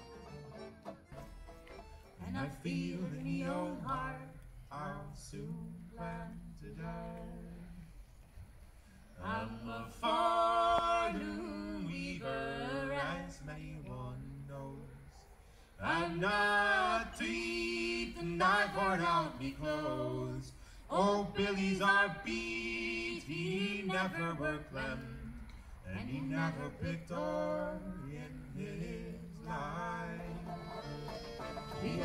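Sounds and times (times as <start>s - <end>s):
man and woman singing: 2.2s - 8.0s, 9.1s - 15.0s, 15.8s - 32.0s.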